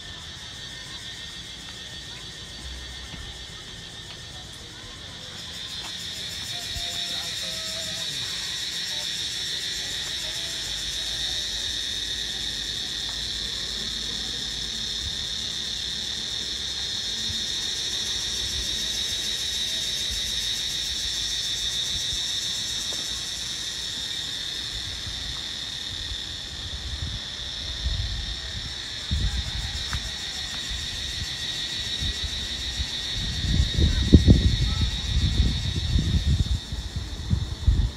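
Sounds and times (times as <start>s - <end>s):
high-pitched insect chorus: 0.0s - 37.9s.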